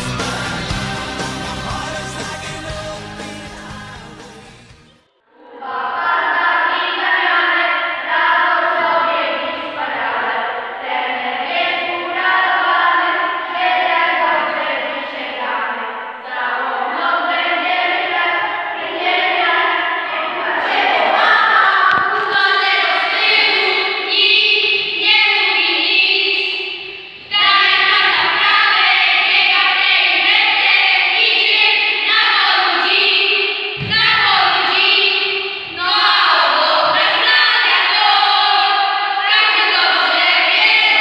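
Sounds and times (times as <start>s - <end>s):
boys singing in chorus: 0.0s - 4.6s, 5.4s - 41.0s.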